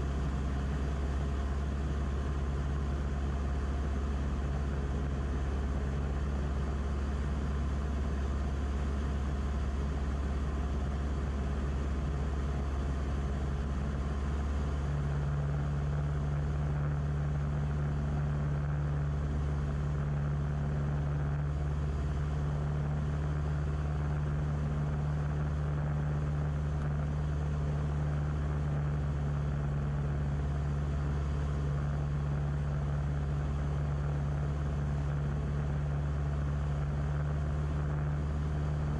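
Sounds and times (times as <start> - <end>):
low hum: 0.0 - 38.9
propeller plane engine droning: 0.0 - 38.9.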